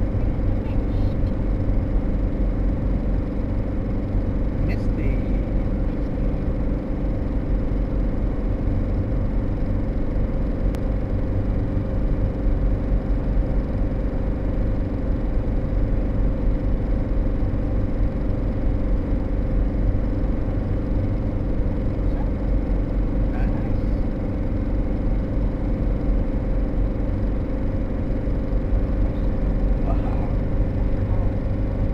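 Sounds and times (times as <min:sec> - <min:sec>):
engine and road noise in cab: 0:00.0 - 0:31.9.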